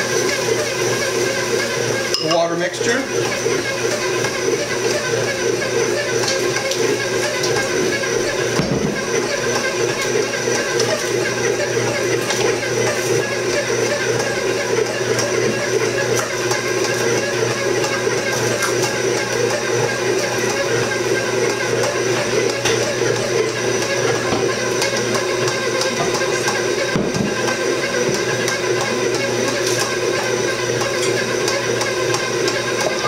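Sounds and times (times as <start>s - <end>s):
stand mixer motor running: 0.0s - 33.0s.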